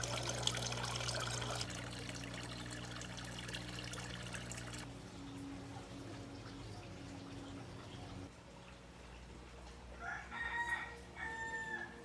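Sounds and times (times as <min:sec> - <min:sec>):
low steady hum: 0:00.0 - 0:10.0
water trickling into a pond: 0:00.0 - 0:11.7.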